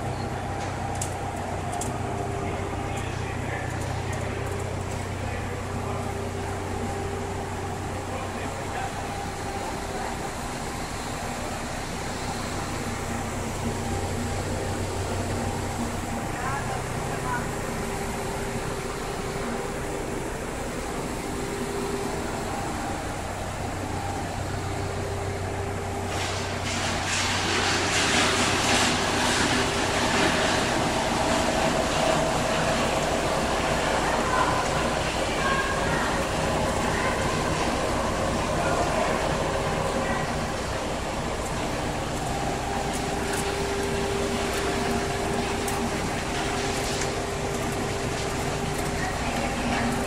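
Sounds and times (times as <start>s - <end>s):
machinery hum and whir: 0.0s - 50.0s.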